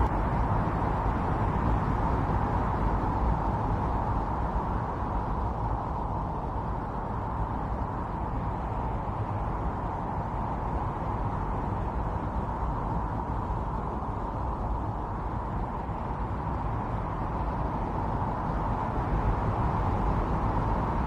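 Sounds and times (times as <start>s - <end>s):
strong snowstorm wind: 0.0s - 21.0s.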